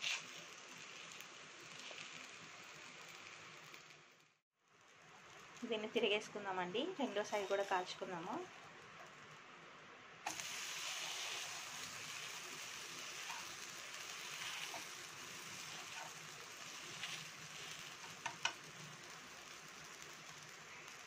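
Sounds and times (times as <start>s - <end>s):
dosa sizzling on griddle: 0.0s - 21.0s.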